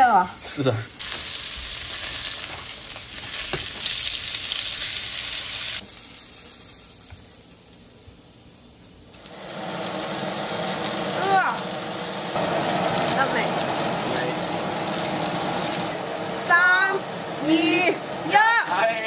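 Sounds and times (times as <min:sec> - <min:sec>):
steak sizzling in frying pan: 0:00.0 - 0:18.6.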